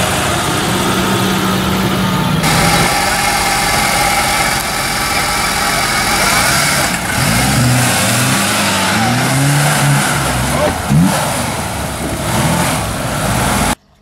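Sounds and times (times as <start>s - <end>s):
off-road vehicle engine revving: 0.0s - 13.9s.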